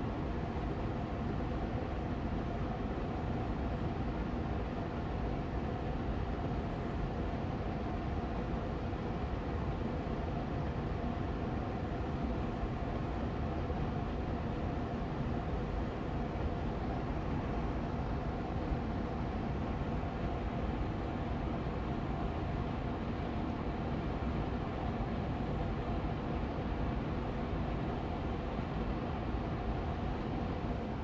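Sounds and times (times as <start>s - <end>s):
air purifier fan whirring: 0.0s - 31.0s.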